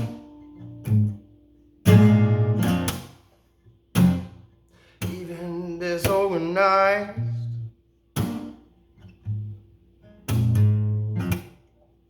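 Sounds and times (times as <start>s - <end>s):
guitar strummed chords: 0.0s - 3.3s, 3.9s - 11.7s.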